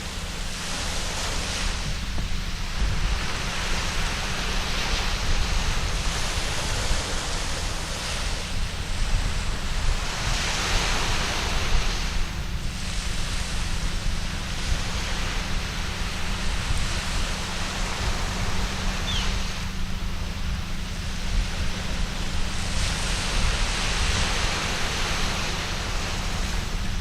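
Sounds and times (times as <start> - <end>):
surf breaking on a beach: 0.0 - 27.0
wind rumble on microphone: 0.0 - 27.0.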